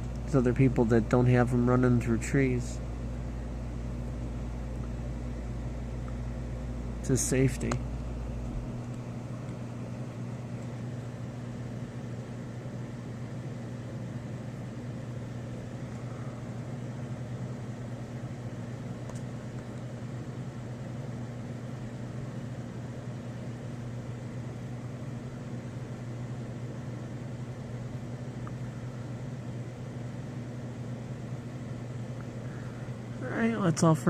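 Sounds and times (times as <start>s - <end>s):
constant low hum: 0.0s - 34.0s.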